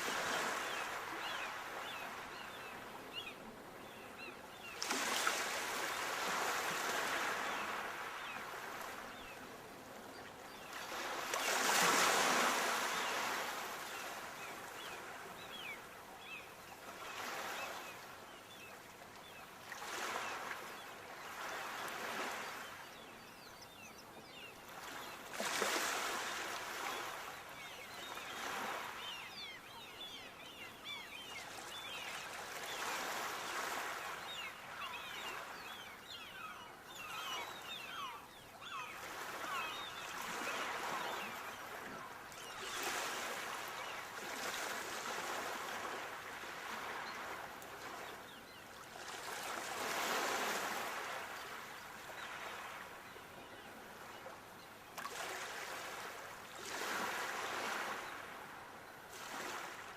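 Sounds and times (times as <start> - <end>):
sea waves breaking on shore: 0.0 - 4.0, 4.6 - 9.4, 10.5 - 18.6, 24.3 - 54.4, 55.0 - 59.9.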